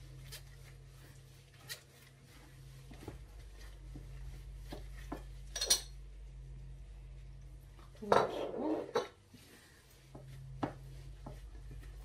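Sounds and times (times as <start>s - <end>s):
dough squishing: 0.0s - 12.0s.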